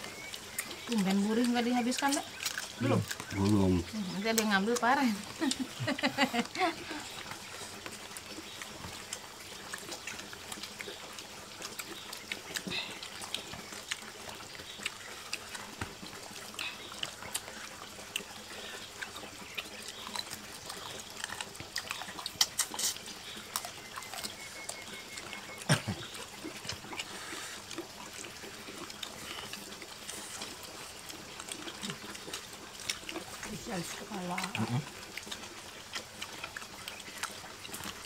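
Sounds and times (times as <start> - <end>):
wet chewing and lip-smacking: 0.0 - 38.0.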